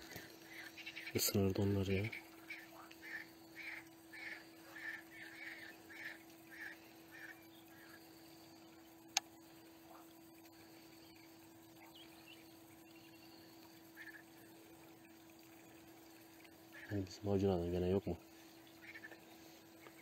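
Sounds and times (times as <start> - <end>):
faint animal calls: 0.0 - 17.2, 18.2 - 20.0
steady low hum: 0.0 - 20.0.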